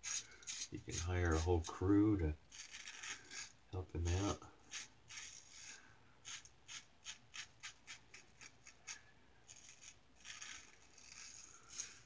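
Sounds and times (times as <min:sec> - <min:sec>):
razor scraping beard stubble: 0:00.0 - 0:12.0.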